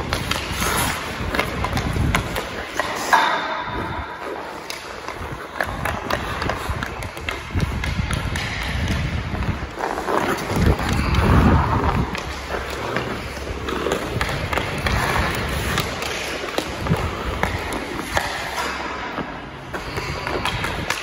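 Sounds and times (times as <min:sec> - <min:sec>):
hockey stick tapping pucks: 0:00.0 - 0:21.0
skate blades scraping ice: 0:00.0 - 0:21.0.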